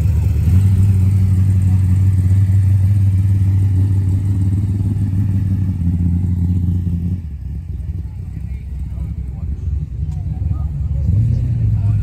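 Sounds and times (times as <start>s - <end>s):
loud deep car exhaust: 0.0s - 12.0s.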